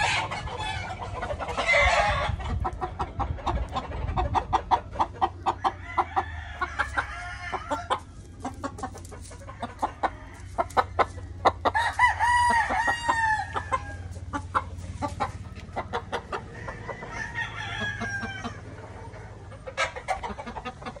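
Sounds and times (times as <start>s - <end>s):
roosters crowing: 0.0s - 21.0s.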